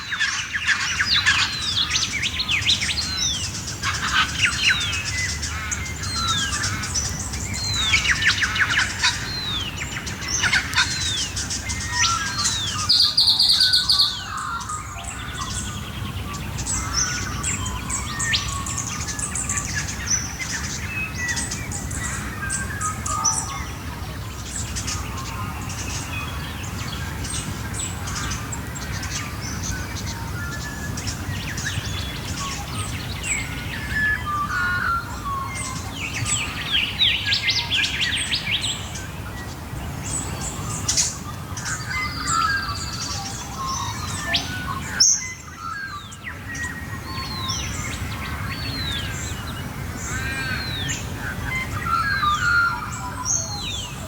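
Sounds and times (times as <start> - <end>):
birds chirping and singing: 0.0 - 54.0.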